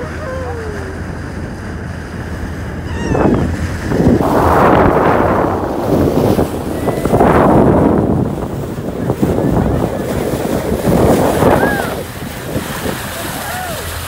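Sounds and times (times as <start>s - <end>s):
boat engine hum: 0.0s - 14.0s
wind and water rushing at bow: 0.0s - 14.0s.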